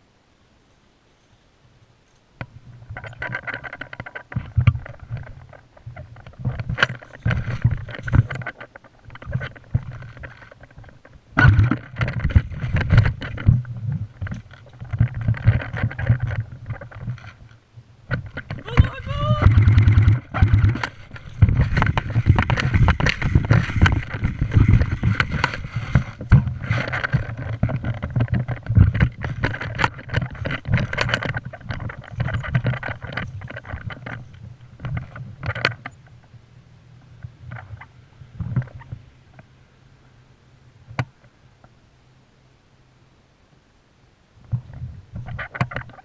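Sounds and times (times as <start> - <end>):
rustling and knocking against camera: 2.4 - 36.4, 37.1 - 39.5, 44.4 - 46.0.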